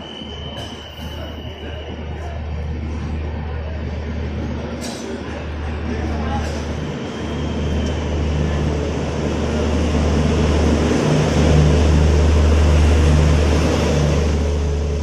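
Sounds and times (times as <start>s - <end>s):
passenger train passing: 0.0s - 15.0s.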